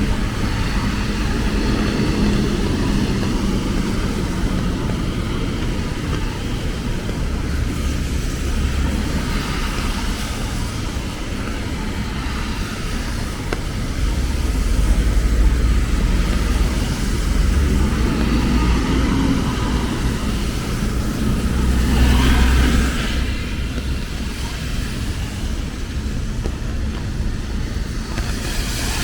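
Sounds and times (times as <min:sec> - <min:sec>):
low vehicle rumble: 0:00.0 - 0:29.0
rain hiss: 0:00.0 - 0:29.0
traffic on wet roads: 0:00.0 - 0:29.0.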